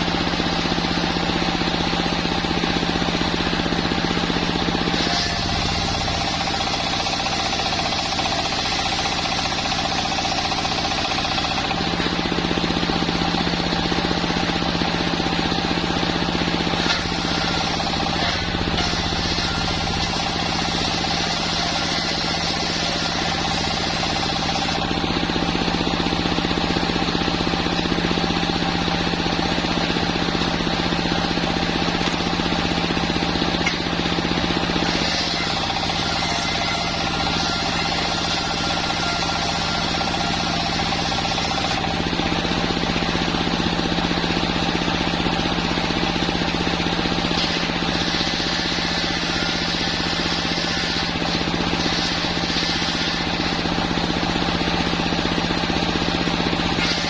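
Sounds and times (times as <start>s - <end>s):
sawmill machine sawing log: 0.0s - 57.0s.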